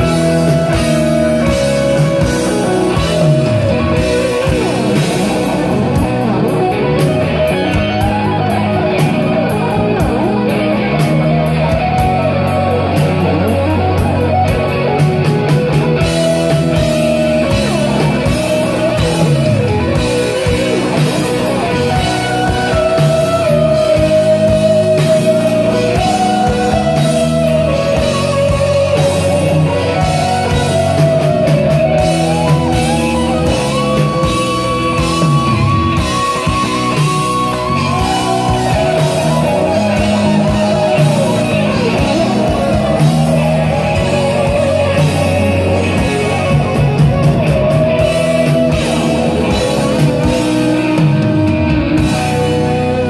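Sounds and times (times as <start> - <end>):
live rock band playing: 0.0 - 53.0
wavering electric guitar lead notes: 0.0 - 53.0.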